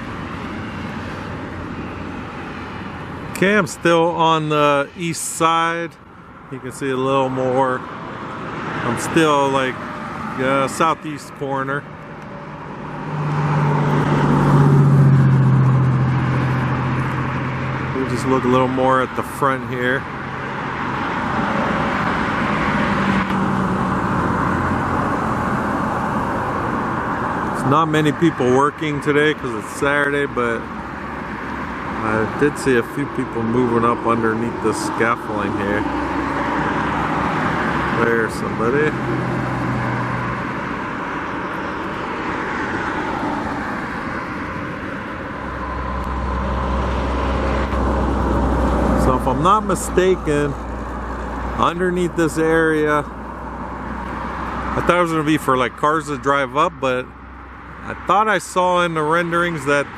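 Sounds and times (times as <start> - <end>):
vehicle passing by: 0.0 - 59.9.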